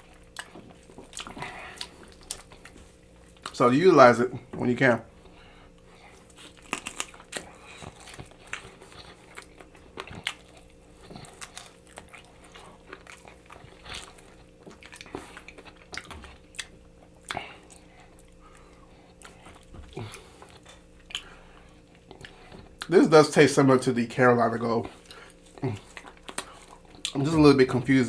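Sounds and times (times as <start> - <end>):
chewing and crunching: 0.0 - 28.0.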